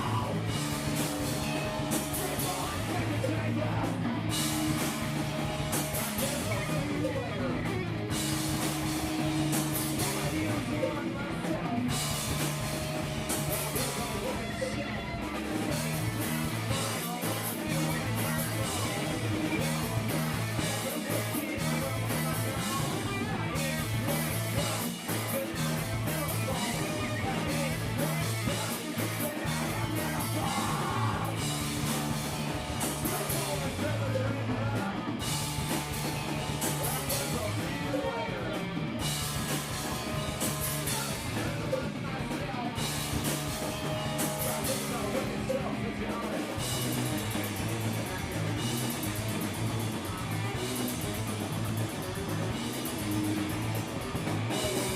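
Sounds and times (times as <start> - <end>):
person singing: 0.0 - 5.2, 9.2 - 48.4
bass guitar: 0.0 - 54.9
drum kit: 0.0 - 54.9
electric guitars: 0.0 - 54.9.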